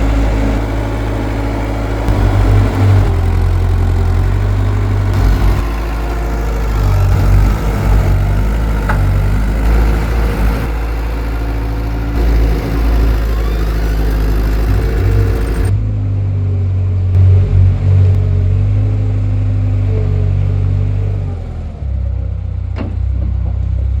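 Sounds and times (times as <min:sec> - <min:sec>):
diesel engine humming: 0:00.0 - 0:23.4.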